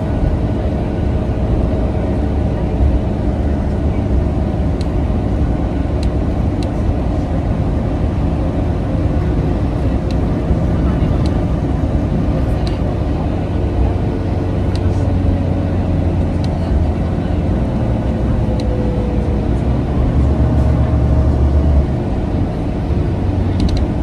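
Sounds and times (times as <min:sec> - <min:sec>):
bus engine and road rumble: 0:00.0 - 0:24.0
drivetrain whine: 0:00.0 - 0:24.0.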